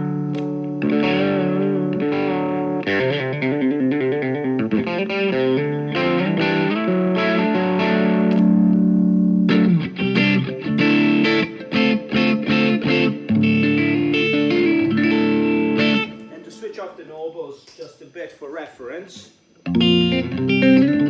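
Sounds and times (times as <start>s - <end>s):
overdriven electric guitar: 0.0s - 16.5s, 19.6s - 21.0s.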